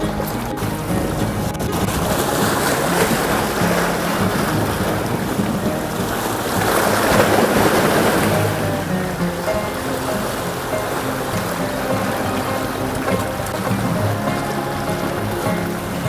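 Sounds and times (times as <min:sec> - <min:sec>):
background music: 0:00.0 - 0:16.0
rushing sea water: 0:00.0 - 0:16.0
rushing wind: 0:00.0 - 0:16.0.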